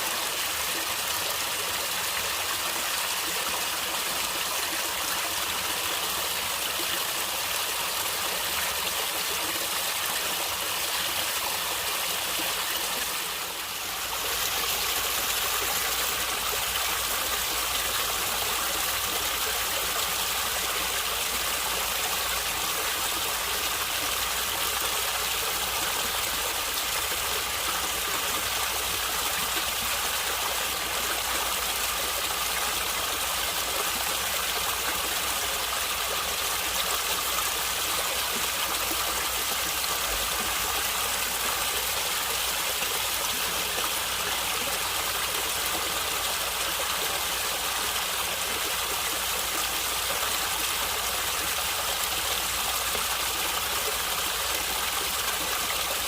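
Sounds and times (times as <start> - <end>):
stream water gurgling: 0.0 - 56.0.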